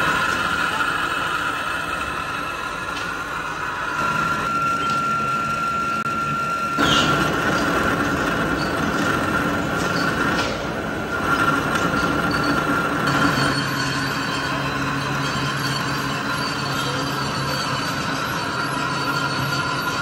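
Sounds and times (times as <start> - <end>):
high tool whine: 0.0 - 20.0
lathe machining steel: 0.0 - 20.0.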